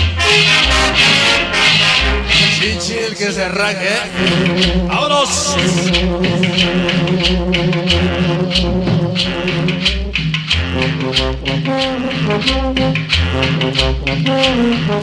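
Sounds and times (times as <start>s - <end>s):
cumbia dance music: 0.0s - 15.0s.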